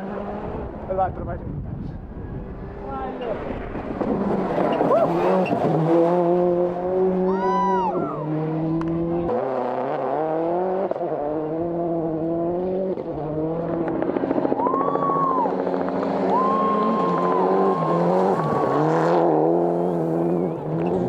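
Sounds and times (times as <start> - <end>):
rally car engine revving: 2.0 - 21.0.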